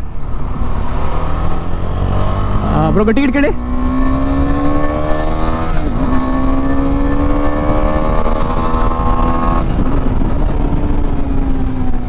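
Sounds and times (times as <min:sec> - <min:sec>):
motorcycle engine accelerating: 0:00.0 - 0:12.0
wind rumble on microphone: 0:00.0 - 0:12.0.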